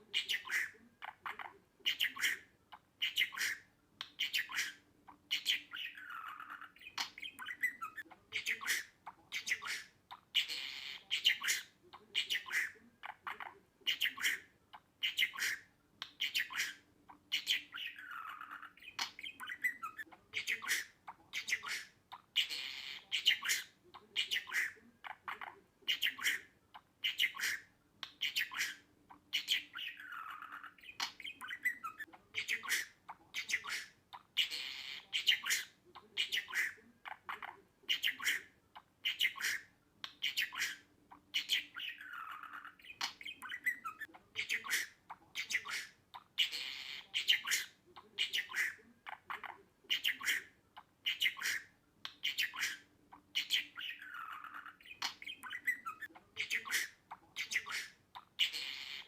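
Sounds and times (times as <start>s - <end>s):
budgerigar chirping and squawking: 0.0s - 59.0s.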